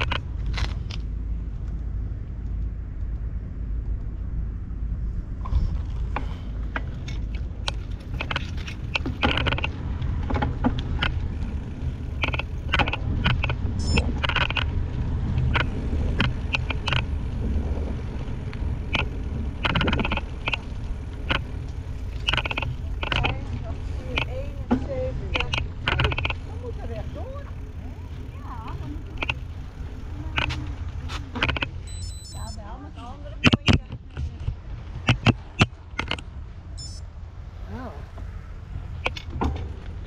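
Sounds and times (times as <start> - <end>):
bike rattling over joints: 0.0 - 36.4, 37.5 - 40.0
bike tyres rumbling: 0.0 - 40.0.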